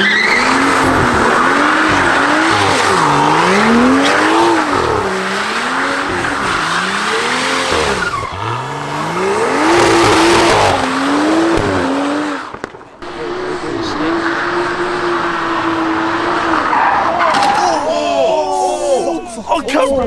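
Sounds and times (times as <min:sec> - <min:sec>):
car engine revving hard: 0:00.0 - 0:17.3
tyres squealing: 0:00.0 - 0:20.0.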